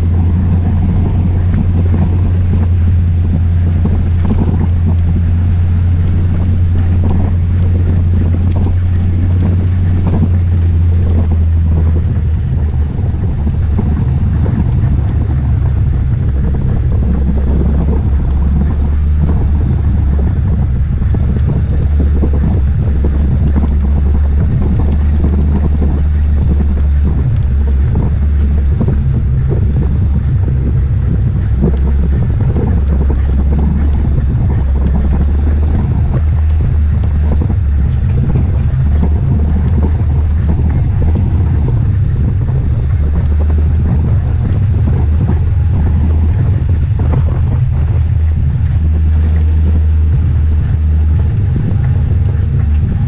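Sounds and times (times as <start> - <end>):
utility vehicle engine running: 0.0 - 53.0
wind buffeting microphone: 0.0 - 53.0.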